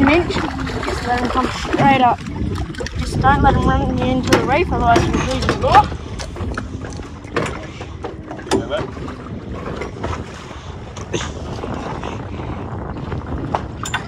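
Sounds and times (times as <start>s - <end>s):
water against boat: 0.0s - 14.0s
wind rumble: 0.0s - 14.0s.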